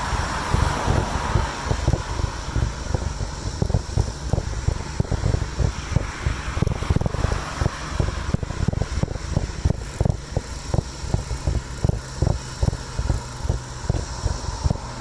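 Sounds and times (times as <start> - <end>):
irregular low thumps: 0.0 - 15.0
rush of air and road noise: 0.0 - 15.0.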